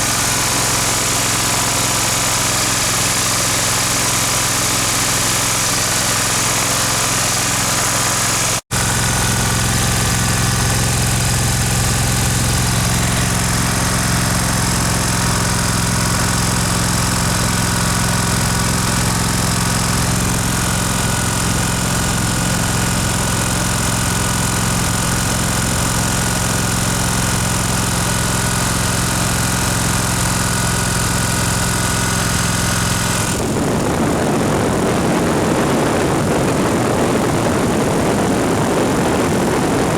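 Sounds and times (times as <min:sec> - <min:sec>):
rough rushing noise: 0:00.0 - 0:26.6, 0:31.3 - 0:39.9
mower engine idling: 0:00.0 - 0:39.9.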